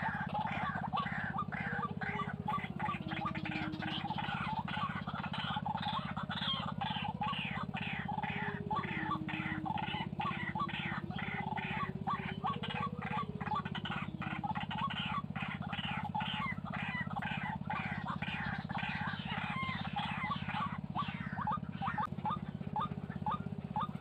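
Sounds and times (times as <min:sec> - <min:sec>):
birds croaking calls: 0:00.0 - 0:24.0
steady low hum: 0:00.0 - 0:24.0.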